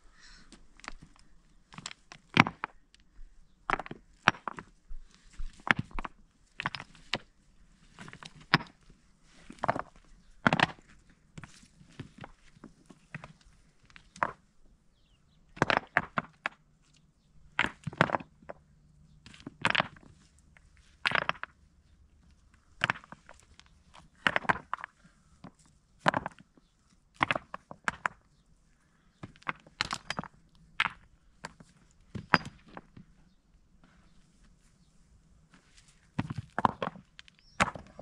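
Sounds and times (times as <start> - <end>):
rocks clattering on stony ground: 0.5 - 14.5, 15.5 - 28.4, 29.1 - 33.1, 35.5 - 38.0.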